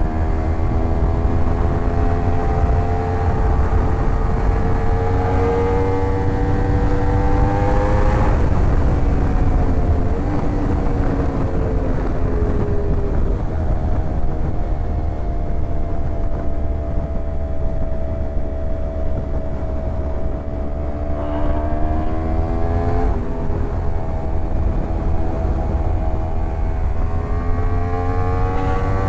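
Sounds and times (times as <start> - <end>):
motorcycle engine: 0.0 - 29.0
wind rumble: 0.0 - 29.0.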